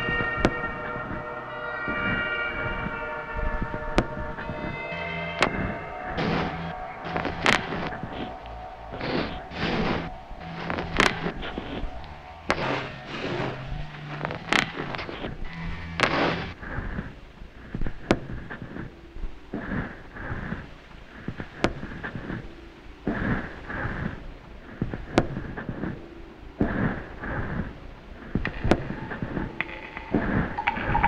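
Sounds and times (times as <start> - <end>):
low hum: 0.0 - 31.0
rough crackling noise: 1.9 - 31.0.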